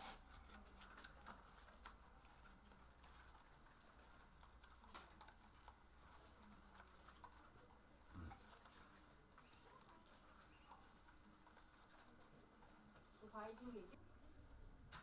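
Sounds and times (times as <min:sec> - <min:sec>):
paper and cardboard rustling: 0:00.0 - 0:13.9.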